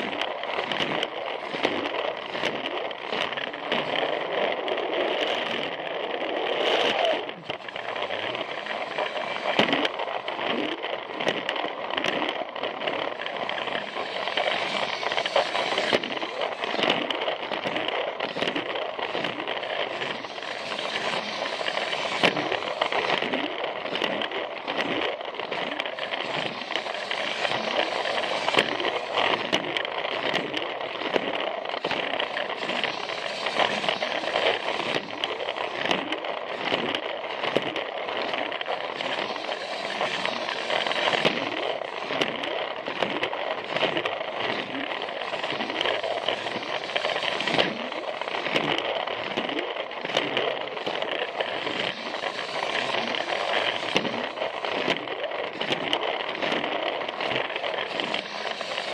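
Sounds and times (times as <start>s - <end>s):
toy train motor whine: 0.0s - 58.9s
wheels clicking over track joints: 0.0s - 58.9s.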